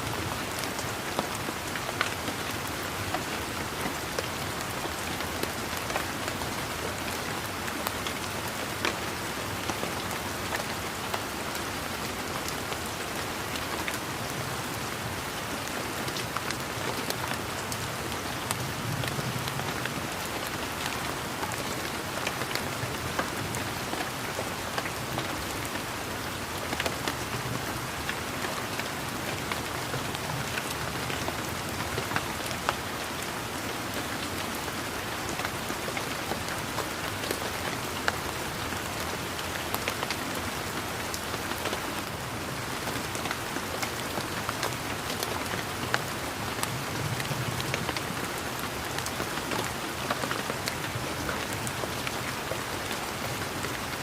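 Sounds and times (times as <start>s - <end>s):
rain pattering on leaves and ground: 0.0s - 54.0s.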